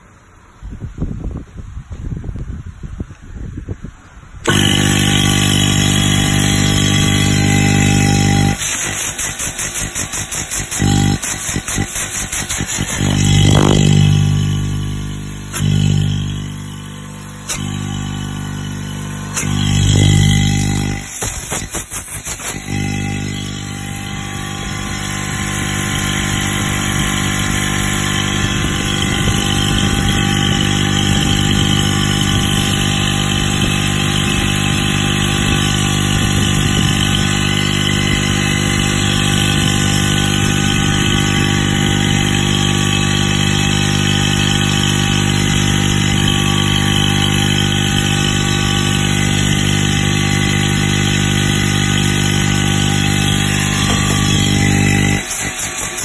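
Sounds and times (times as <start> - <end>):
faint high whine: 4.4 - 55.8
compressor humming: 4.4 - 56.0.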